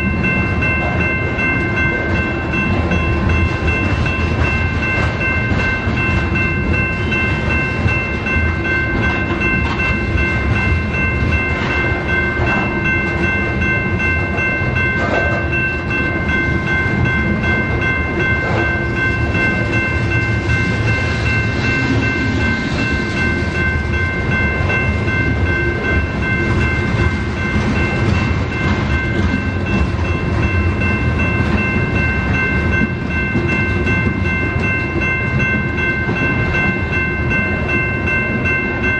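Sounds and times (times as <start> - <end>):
freight train cars rumbling: 0.0 - 38.9.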